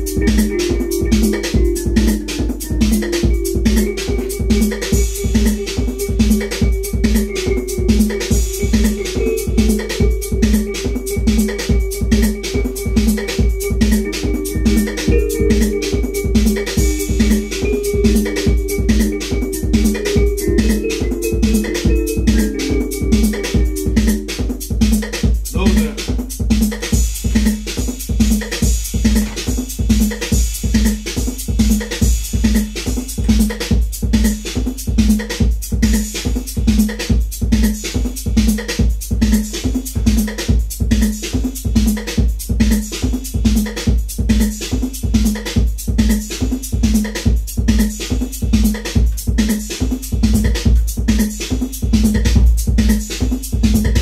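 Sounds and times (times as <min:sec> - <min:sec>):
drum machine beat: 0:00.0 - 0:54.0.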